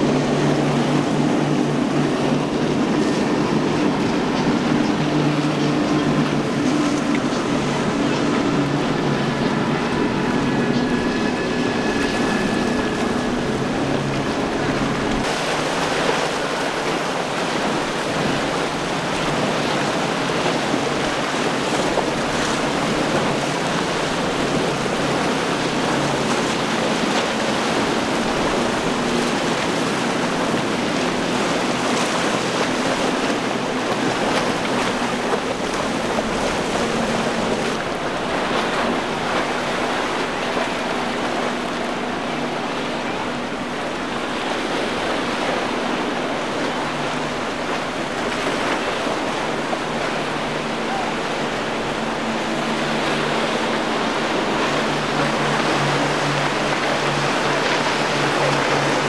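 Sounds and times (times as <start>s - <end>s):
outboard motors droning: 0.0s - 59.0s
sea water splashing: 0.0s - 59.0s
wind buffeting microphone: 0.0s - 59.0s.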